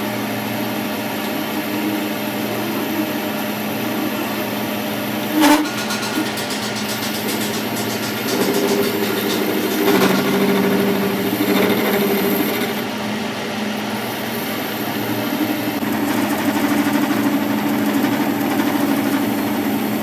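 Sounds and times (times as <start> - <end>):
workshop machine motor humming: 0.0 - 20.0.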